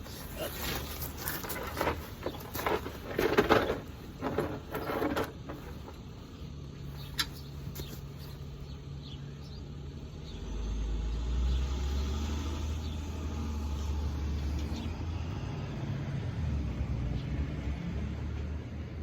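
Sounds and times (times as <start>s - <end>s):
engine rumbling low: 0.0s - 19.0s.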